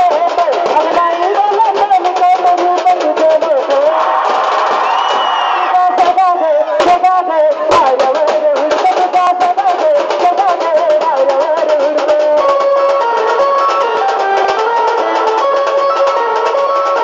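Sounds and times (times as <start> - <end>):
rapid dense percussion: 0.0 - 17.0.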